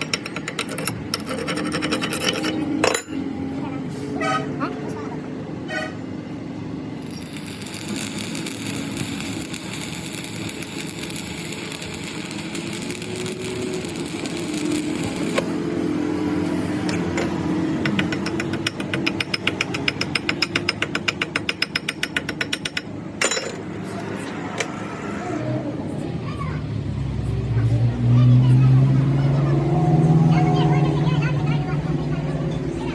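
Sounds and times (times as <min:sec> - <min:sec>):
workshop machine humming: 0:00.0 - 0:27.9.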